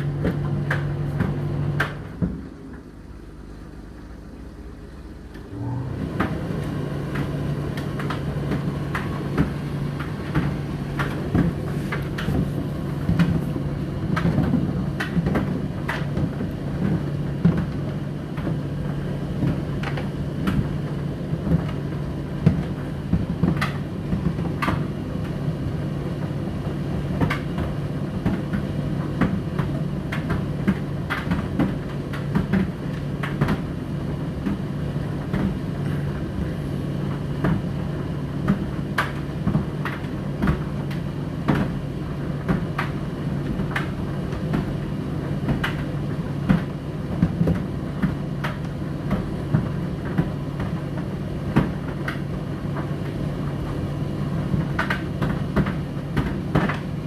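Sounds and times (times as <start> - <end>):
appliance motor hum: 0.0 - 57.0.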